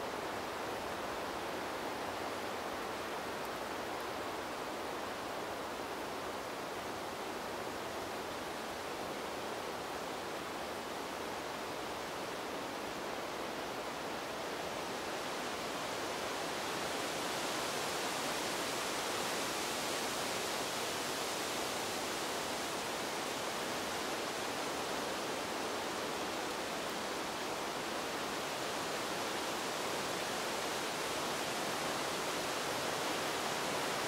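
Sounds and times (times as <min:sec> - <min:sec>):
wind blowing through trees: 0:00.0 - 0:34.0.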